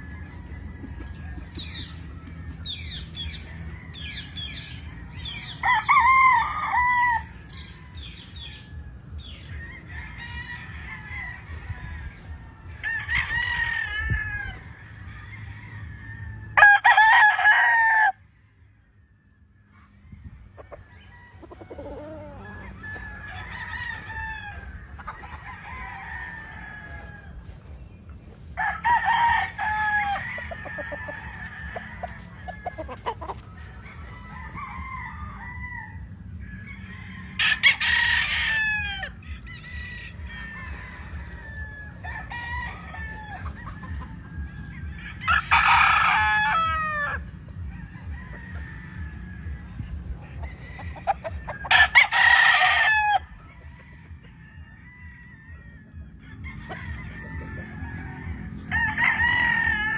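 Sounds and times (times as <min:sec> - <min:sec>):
roosters crowing: 0:00.0 - 0:59.9.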